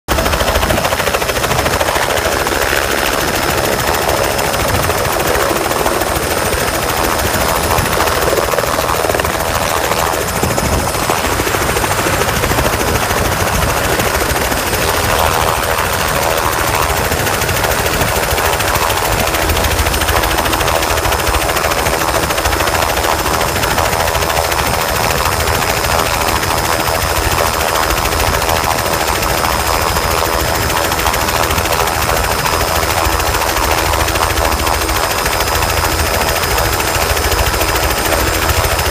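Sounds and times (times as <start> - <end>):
helicopter turbine and rotor: 0.1 - 38.9
high turbine whine: 0.1 - 38.9.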